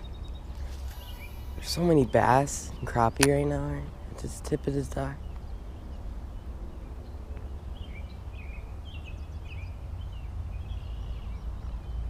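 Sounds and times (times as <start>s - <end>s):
bird singing: 0.0s - 12.0s
steady low rumble: 0.0s - 12.0s.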